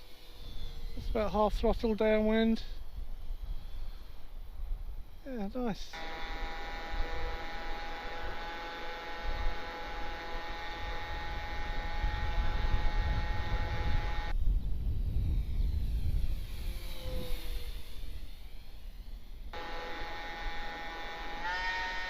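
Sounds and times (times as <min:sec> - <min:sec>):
low wind rumble: 0:00.0 - 0:19.6
model plane motor and propeller: 0:00.0 - 0:22.0.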